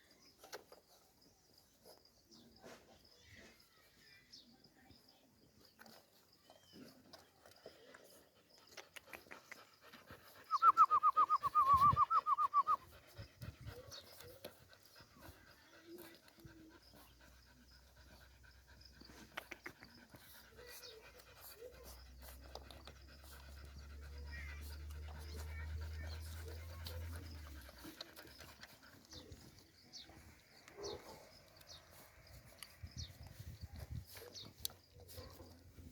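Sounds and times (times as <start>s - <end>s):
dog panting: 4.7s - 35.9s.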